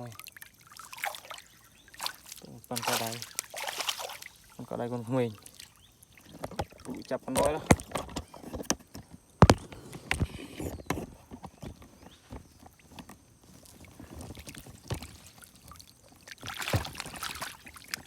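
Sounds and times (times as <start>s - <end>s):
water noise: 0.0s - 10.4s, 12.4s - 18.0s.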